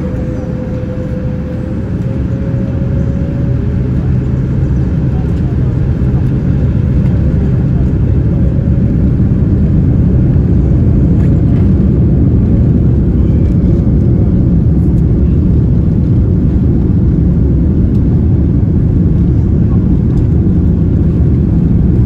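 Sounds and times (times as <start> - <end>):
aircraft cabin rumble: 0.0 - 22.0
engine and wheel noise: 0.0 - 22.0.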